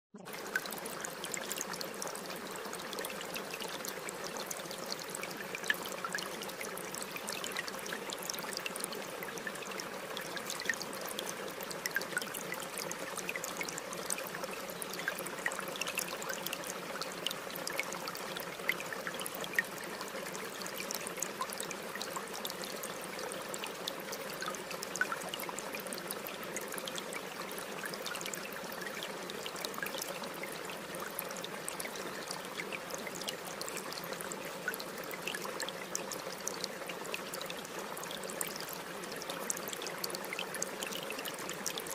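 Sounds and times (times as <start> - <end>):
small splashes and drips: 0.2 - 41.9
water trickling: 0.2 - 41.9.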